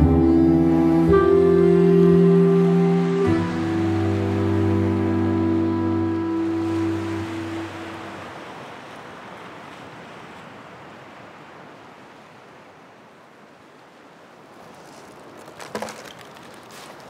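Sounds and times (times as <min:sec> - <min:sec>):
waves on rocky shore: 0:00.0 - 0:17.0.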